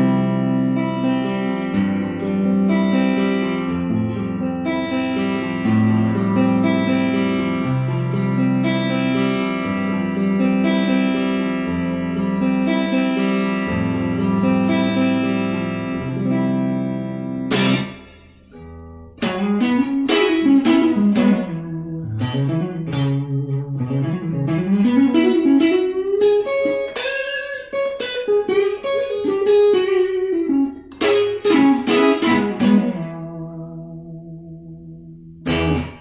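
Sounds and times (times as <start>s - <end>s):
electric guitar chord ringing: 0.0s - 36.0s
electric guitar lead line: 0.0s - 36.0s.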